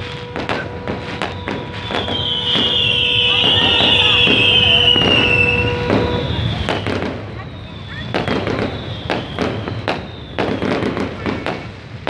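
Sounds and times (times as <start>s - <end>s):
firework whistle: 0.0s - 12.0s
fireworks bangs and crackles: 0.0s - 12.0s.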